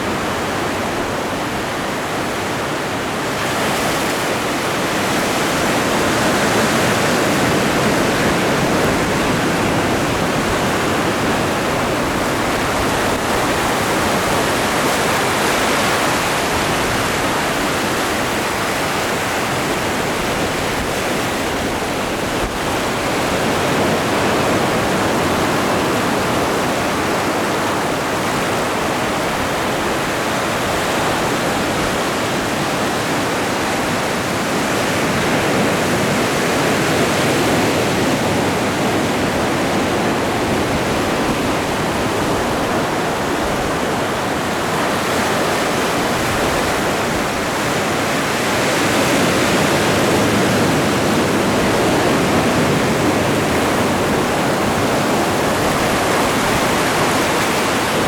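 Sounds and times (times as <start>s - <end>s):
surf breaking on shore: 0.0s - 58.0s.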